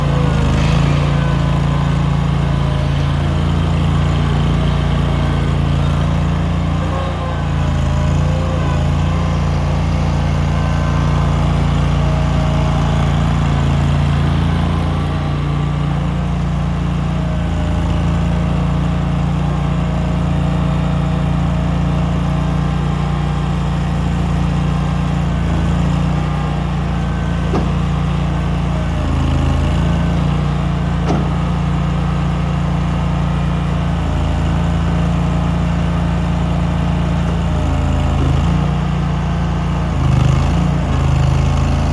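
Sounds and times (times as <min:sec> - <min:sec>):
backhoe loader engine running: 0:00.0 - 0:41.9.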